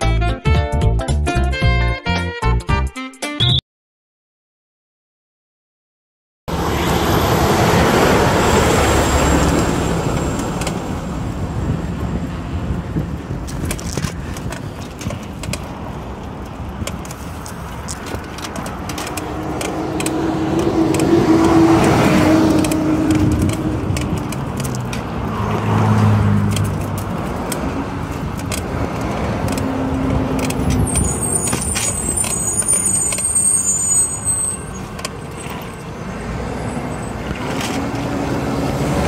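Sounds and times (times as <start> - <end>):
cars passing on busy road: 6.5 - 39.0.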